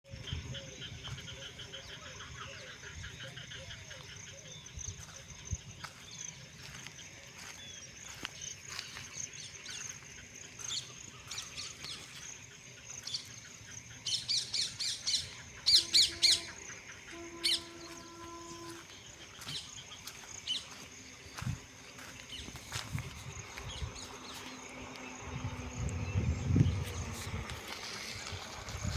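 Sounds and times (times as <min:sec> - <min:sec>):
birds calling and chirping: 0:00.1 - 0:28.9
steady high-pitched drone: 0:00.1 - 0:28.9.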